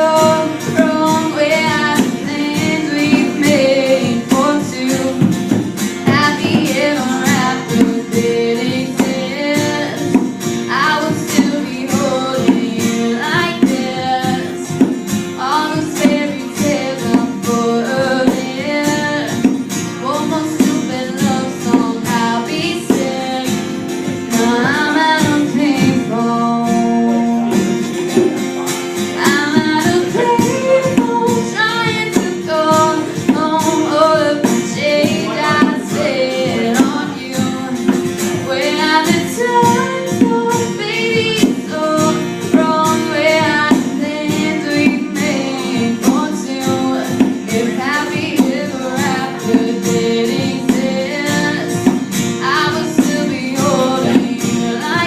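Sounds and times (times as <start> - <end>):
song with guitar and beat: 0.0 - 55.0.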